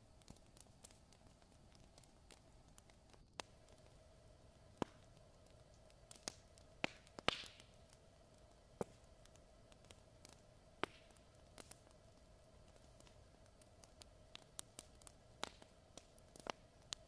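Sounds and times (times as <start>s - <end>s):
faint steady hiss: 0.0s - 17.0s
wood fire crackling: 0.0s - 17.0s.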